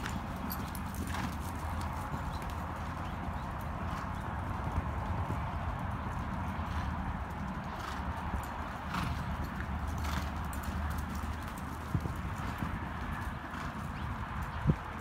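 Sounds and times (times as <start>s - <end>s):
horse hoofbeats on soft dirt: 0.0s - 15.0s.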